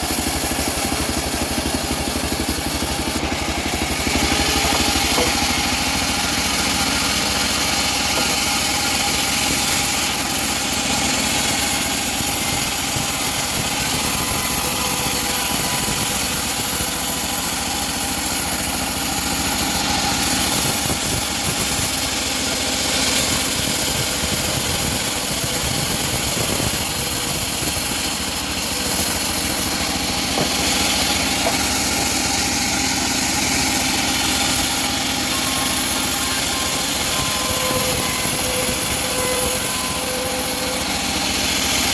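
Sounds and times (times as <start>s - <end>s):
engine-driven bandsaw mill running: 0.0s - 41.9s.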